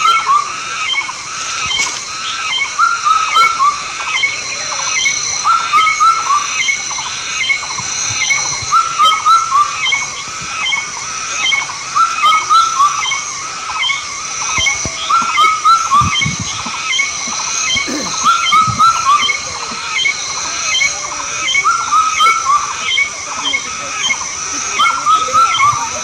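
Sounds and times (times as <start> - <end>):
high-pitched drone: 0.0 - 26.0.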